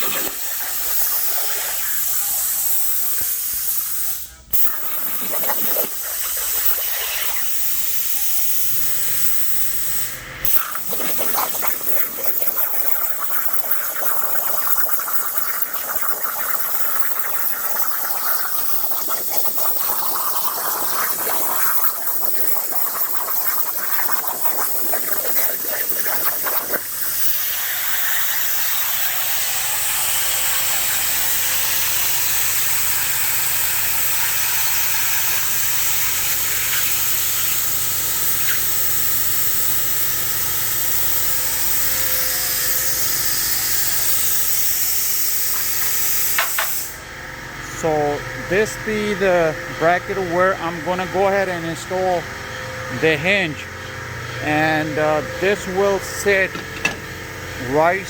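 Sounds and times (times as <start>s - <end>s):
plasma cutter hissing and crackling: 0.0s - 47.1s.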